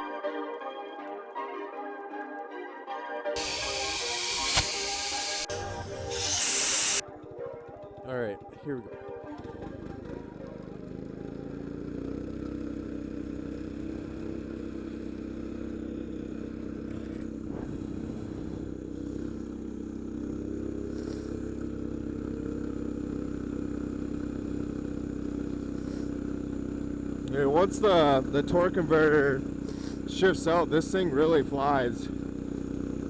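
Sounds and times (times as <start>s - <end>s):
minibike engine running: 3.4s - 33.0s.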